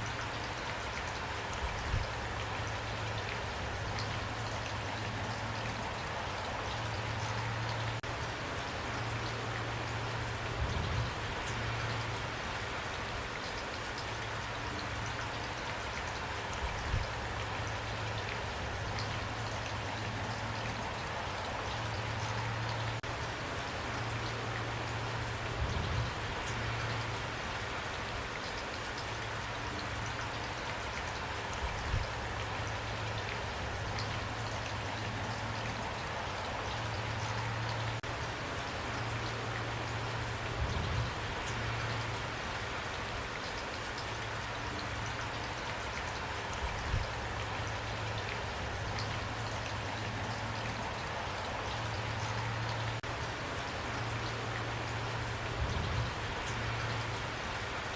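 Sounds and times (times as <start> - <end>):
rain falling: 0.0 - 57.9.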